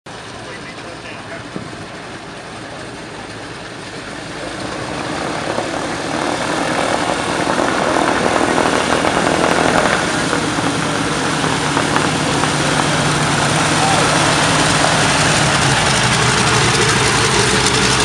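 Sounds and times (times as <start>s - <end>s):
propeller aircraft engines running: 0.1s - 18.0s.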